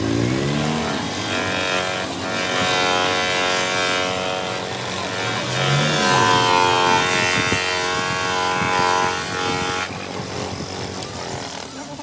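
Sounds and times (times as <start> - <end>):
buffing wheel rubbing plastic: 0.0 - 12.0
polishing motor humming: 0.0 - 12.0.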